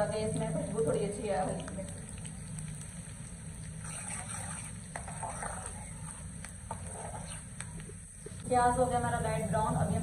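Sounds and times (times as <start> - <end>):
oil crackling and popping: 0.2 - 8.4.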